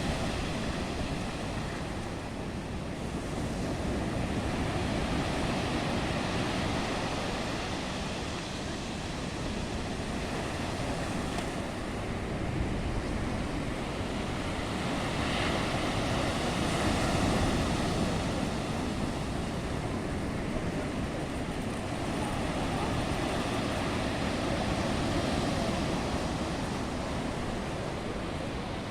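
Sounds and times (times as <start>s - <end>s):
waves breaking: 0.0s - 28.9s.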